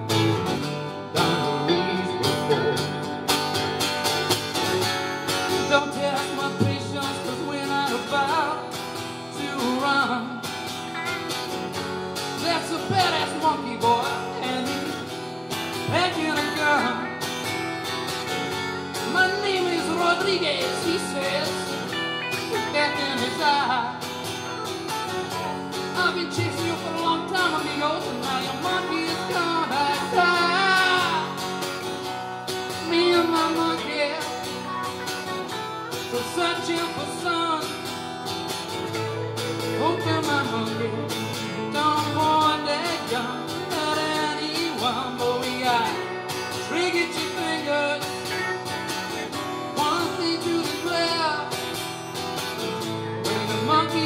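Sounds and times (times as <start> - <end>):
acoustic guitar: 0.0 - 54.0
electric guitar lead melody: 0.0 - 54.0.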